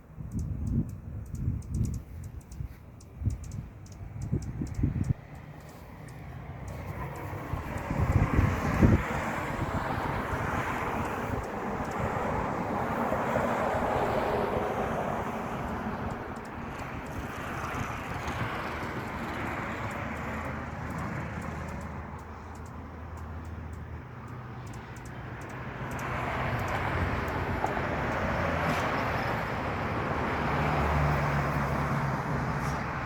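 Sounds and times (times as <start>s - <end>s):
hummingbird clicks: 0.0s - 29.3s.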